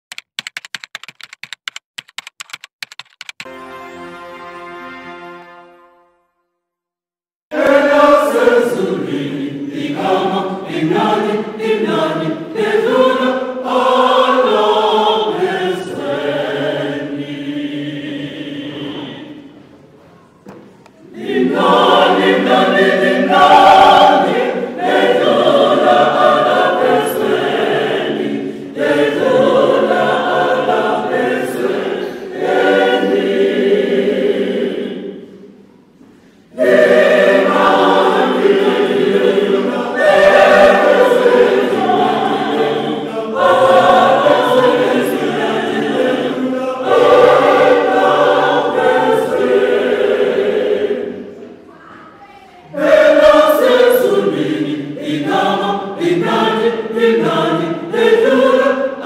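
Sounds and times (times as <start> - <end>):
mixed choir singing in harmony: 7.5 - 51.7, 52.6 - 59.0.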